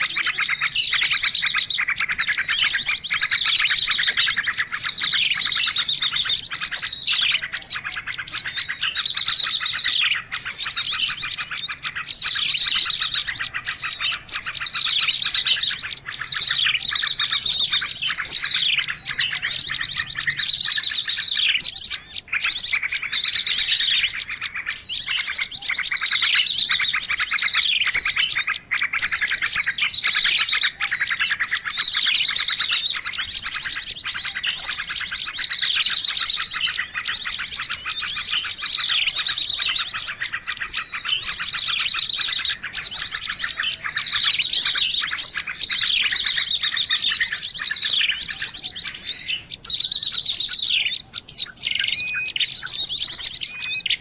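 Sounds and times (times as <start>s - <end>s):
falling whistled bird notes: 0.0s - 54.0s
songbirds chirping: 0.0s - 54.0s.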